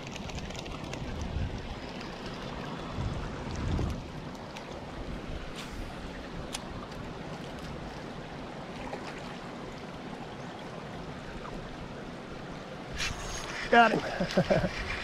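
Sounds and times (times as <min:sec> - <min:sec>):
creek water rushing: 0:01.4 - 0:15.0.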